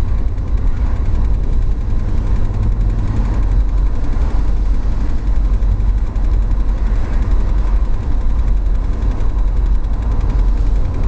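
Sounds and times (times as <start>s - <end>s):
car engine rumble: 0.0s - 11.0s
fast even ticking: 0.0s - 11.0s.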